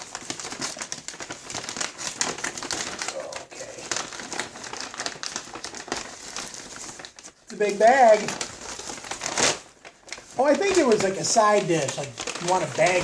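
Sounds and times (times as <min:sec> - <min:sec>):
paper bag crinkling: 0:00.0 - 0:13.0.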